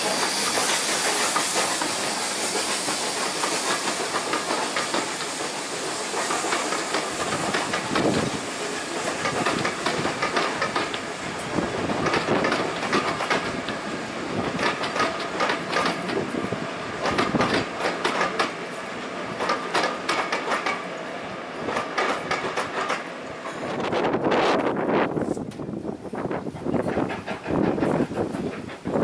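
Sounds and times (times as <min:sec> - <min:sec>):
train wheels clacking over rail joints: 0:00.0 - 0:21.0, 0:21.6 - 0:25.7, 0:26.3 - 0:29.0
steady train rumble: 0:00.0 - 0:29.0.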